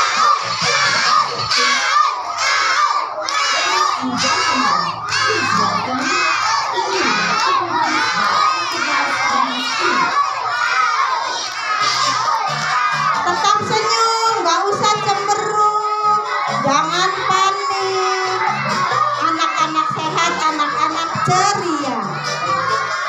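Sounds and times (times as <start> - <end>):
children shouting and cheering: 0.0 - 23.0.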